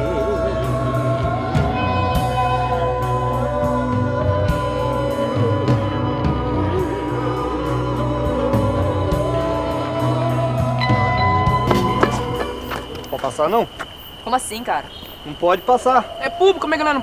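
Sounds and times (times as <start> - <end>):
wavering sung melody: 0.0 - 13.7.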